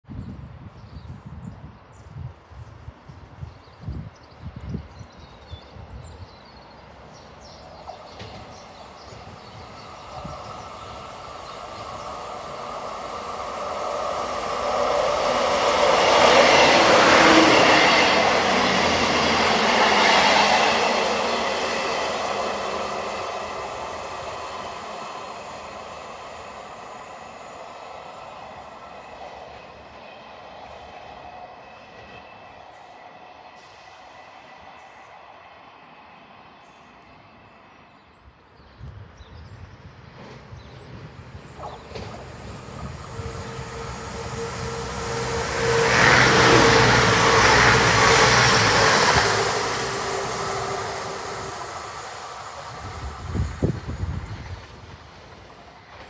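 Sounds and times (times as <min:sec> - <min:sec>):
passenger train passing: 0:00.5 - 0:56.0
steady high train whine: 0:00.5 - 0:56.0.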